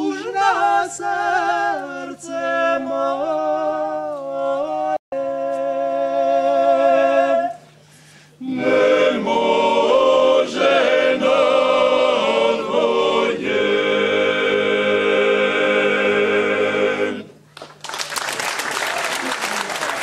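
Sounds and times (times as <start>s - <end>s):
male choir singing a cappella: 0.0s - 7.6s, 8.4s - 17.4s.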